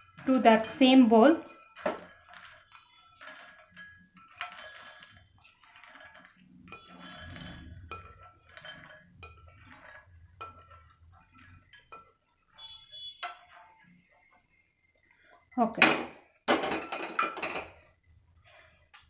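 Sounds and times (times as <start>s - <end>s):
spatula scraping pan: 0.0s - 15.5s, 16.2s - 19.0s.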